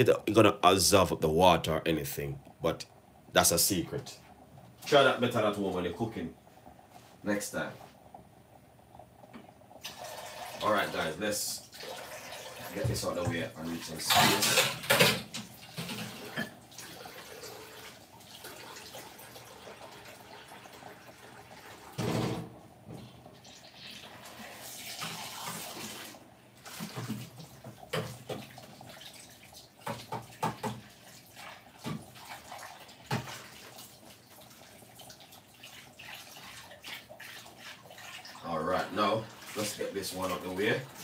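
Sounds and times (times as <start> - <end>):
water boiling in a pot: 0.0 - 41.0.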